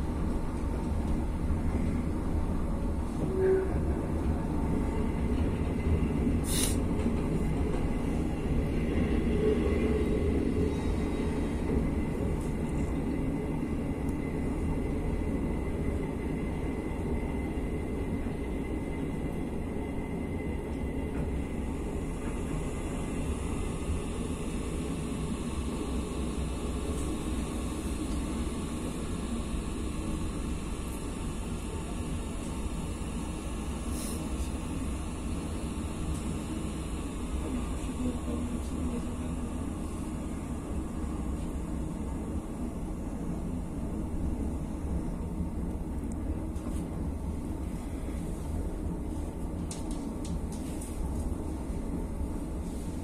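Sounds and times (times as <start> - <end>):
train rumble inside carriage: 0.0 - 53.0.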